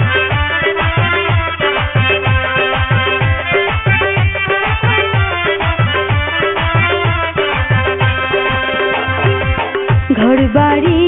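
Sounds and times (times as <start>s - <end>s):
held melody lines: 0.0s - 11.0s.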